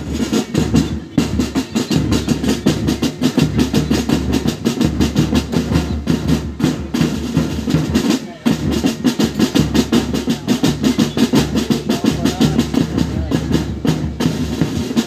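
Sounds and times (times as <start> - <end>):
snare drums: 0.0 - 15.0
tenor and bass drums: 0.0 - 15.0.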